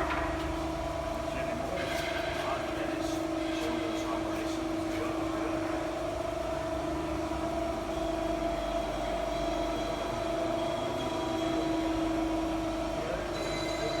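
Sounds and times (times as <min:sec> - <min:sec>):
folding machine motor hum and whine: 0:00.0 - 0:14.0.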